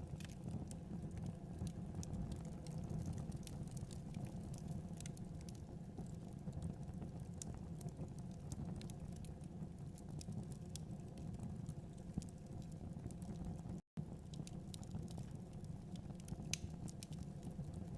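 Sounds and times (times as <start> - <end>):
fire flames rumbling: 0.0 - 17.9
wood fire crackling: 0.0 - 17.9.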